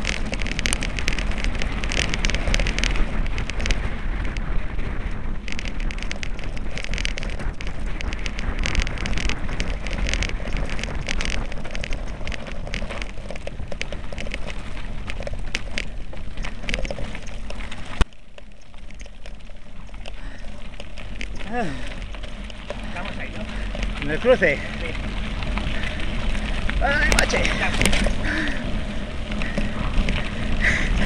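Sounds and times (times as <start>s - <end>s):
bicycle tyres on gravel: 0.0s - 31.0s
wind rumble on microphone: 0.0s - 31.0s.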